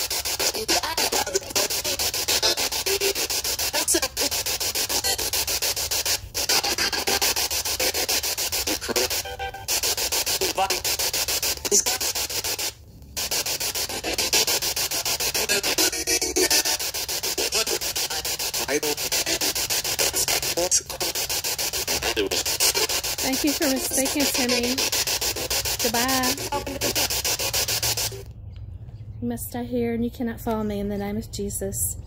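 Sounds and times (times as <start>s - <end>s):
choppy radio static: 0.0s - 28.3s.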